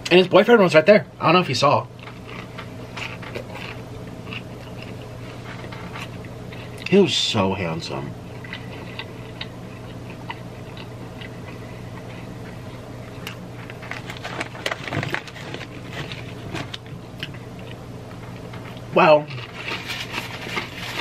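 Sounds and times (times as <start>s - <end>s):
faint low hum: 0.0s - 21.0s
chewing crunchy food: 1.9s - 7.0s, 8.2s - 21.0s.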